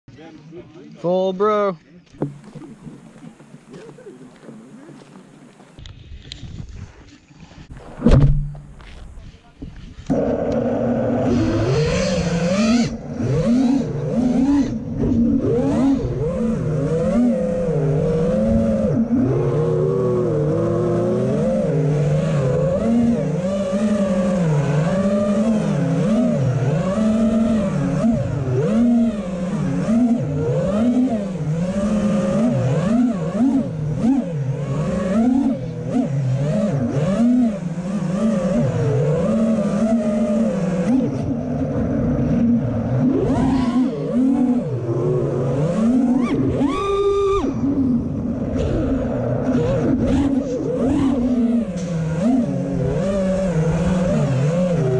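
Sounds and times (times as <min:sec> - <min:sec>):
drone motors whining: 0:09.8 - 0:54.9.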